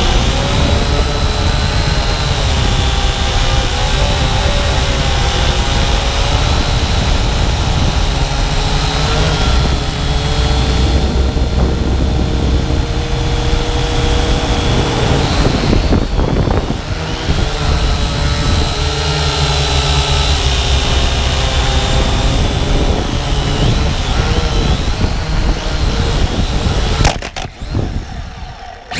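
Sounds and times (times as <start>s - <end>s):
quadcopter propellers whining: 0.0s - 28.9s
strong low rumble: 0.0s - 28.9s.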